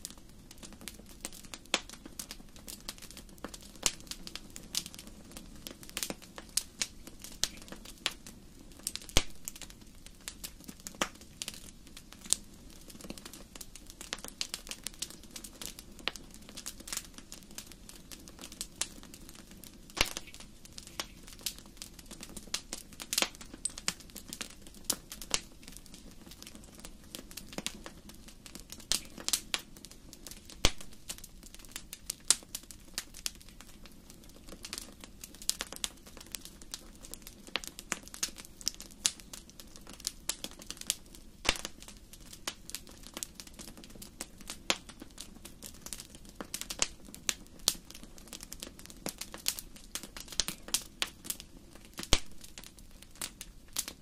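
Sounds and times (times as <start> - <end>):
low rumble of burning: 0.0 - 54.0
wood fire crackling: 0.0 - 54.0.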